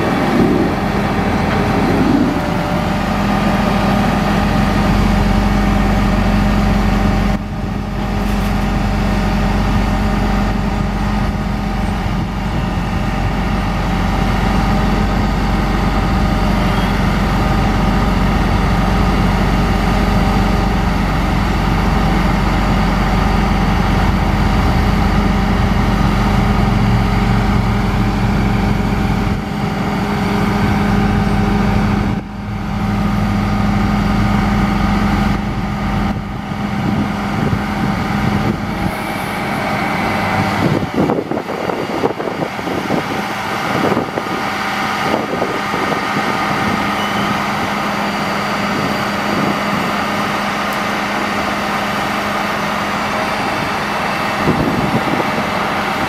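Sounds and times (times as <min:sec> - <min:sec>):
diesel truck engine running: 0:00.0 - 0:56.0
hydraulic whine: 0:00.0 - 0:56.0.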